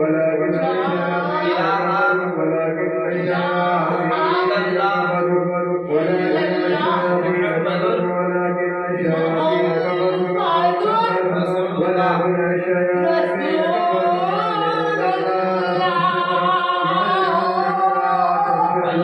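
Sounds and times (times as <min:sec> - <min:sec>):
person chanting melodically: 0:00.0 - 0:19.0.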